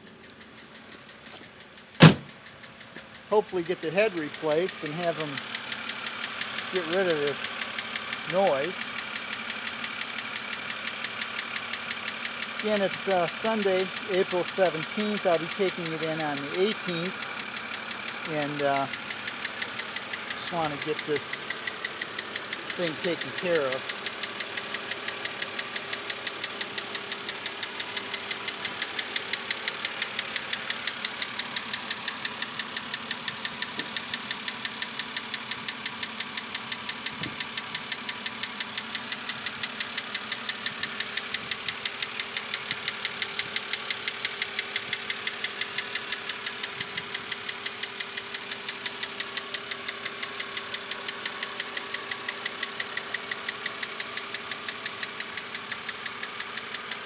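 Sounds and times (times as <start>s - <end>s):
car engine running: 0.0s - 57.0s
rapid knocking tick: 0.0s - 57.0s.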